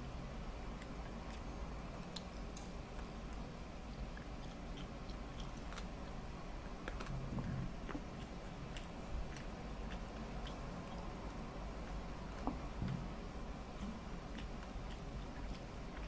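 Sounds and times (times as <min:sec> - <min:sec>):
person chewing: 0:00.7 - 0:16.0.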